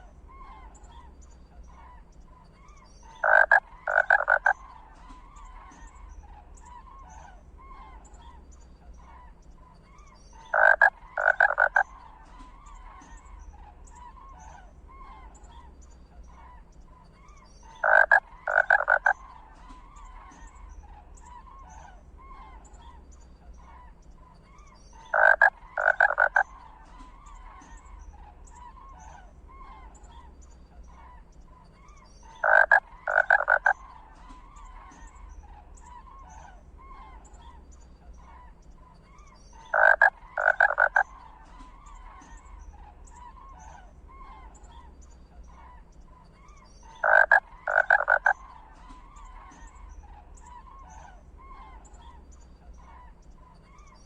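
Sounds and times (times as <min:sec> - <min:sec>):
faint small animal calls: 0:00.0 - 0:54.0
loud animal calls: 0:03.0 - 0:08.4, 0:10.4 - 0:54.0.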